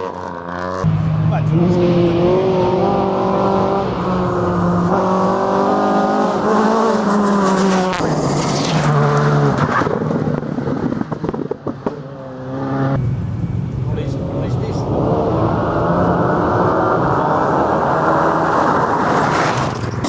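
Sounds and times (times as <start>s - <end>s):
car engine revving through gears: 0.0s - 20.0s.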